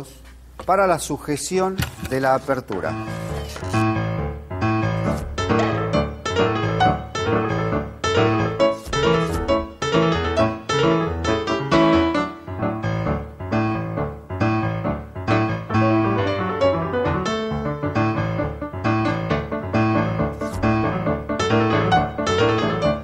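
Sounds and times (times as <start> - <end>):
keyboard chords in steady rhythm: 3.8 - 23.0.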